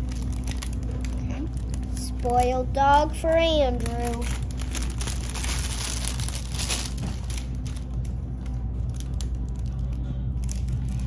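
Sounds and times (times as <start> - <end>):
cellophane bag crinkling: 0.0 - 11.0.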